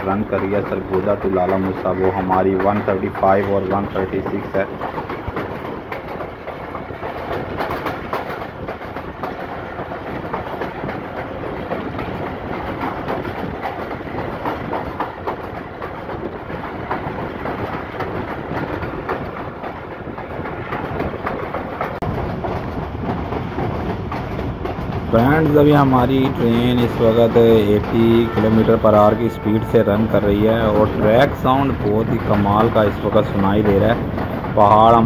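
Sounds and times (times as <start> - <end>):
train wheels rumbling on rails: 0.0 - 35.0
wheels clicking over rail joints: 0.0 - 35.0.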